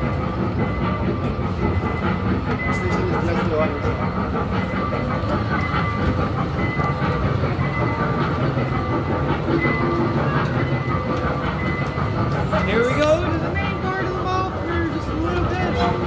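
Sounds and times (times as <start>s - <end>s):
train motor rumble: 0.0s - 16.0s.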